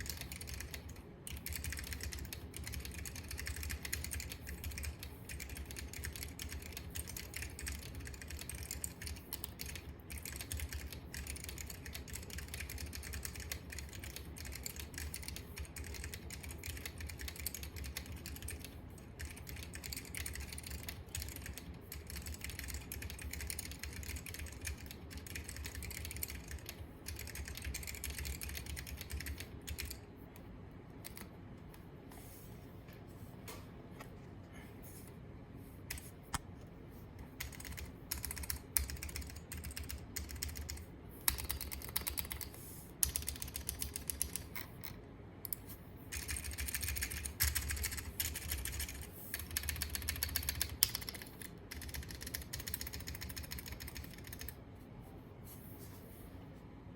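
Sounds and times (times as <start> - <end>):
fast typing on mechanical keyboard: 0.0 - 30.0, 31.0 - 31.3, 37.4 - 44.7, 45.5 - 54.6.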